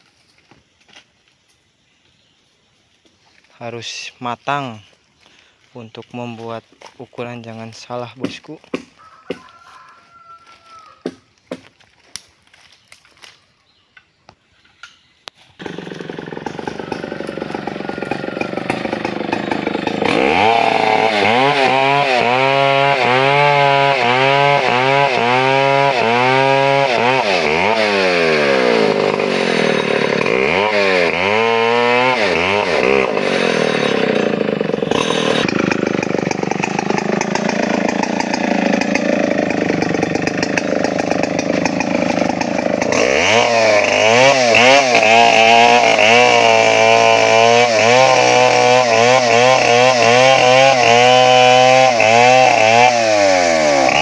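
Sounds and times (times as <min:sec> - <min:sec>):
chainsaw cutting wood: 0:06.3 - 0:13.4, 0:15.4 - 0:54.0.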